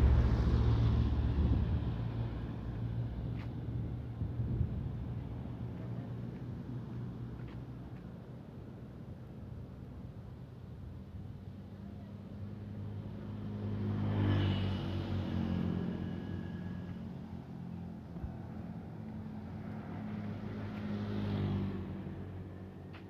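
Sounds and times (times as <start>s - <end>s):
motor vehicles passing by: 0.0s - 8.6s, 11.3s - 23.0s
low engine hum: 0.0s - 23.0s.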